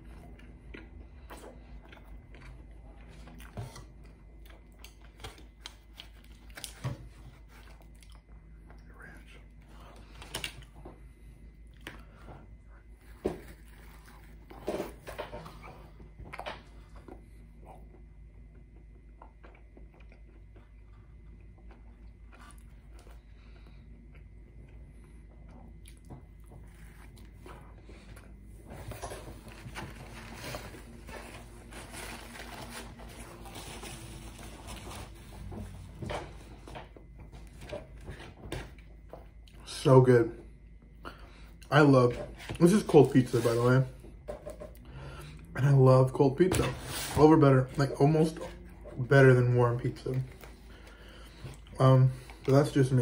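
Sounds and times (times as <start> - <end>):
chewing crunchy crust: 0.0 - 39.8, 49.8 - 53.0.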